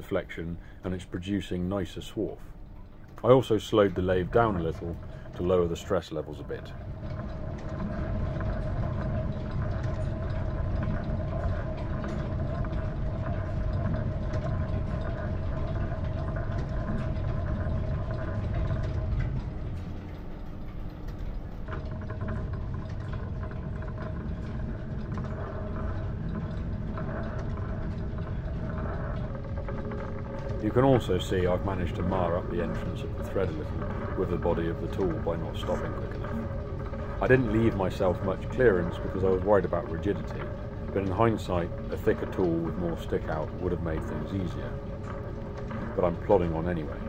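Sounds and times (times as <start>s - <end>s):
lathe cutting thread: 3.8s - 47.0s.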